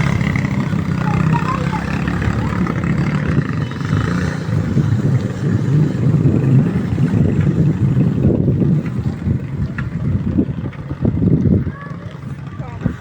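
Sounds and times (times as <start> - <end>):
motorcycle engine running choppy: 0.0 - 13.0.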